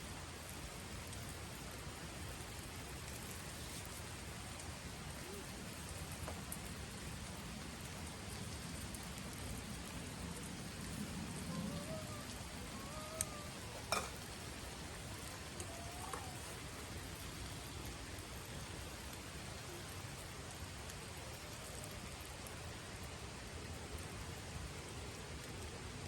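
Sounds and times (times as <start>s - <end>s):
campfire crackling: 0.1s - 26.0s.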